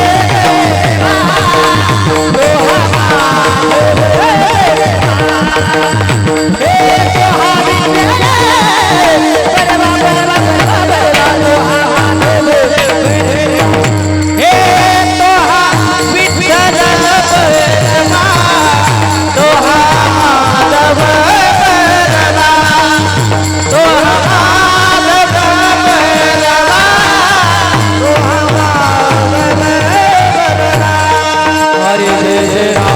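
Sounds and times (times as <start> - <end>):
hand drum rhythm: 0.0 - 32.9
person singing: 0.0 - 32.9.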